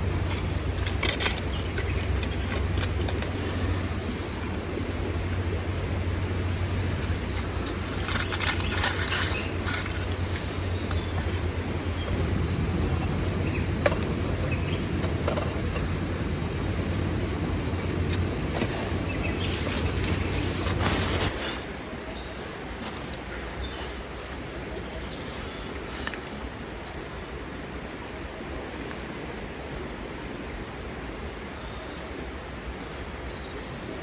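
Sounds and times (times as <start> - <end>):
constant low rumble: 0.0 - 32.4.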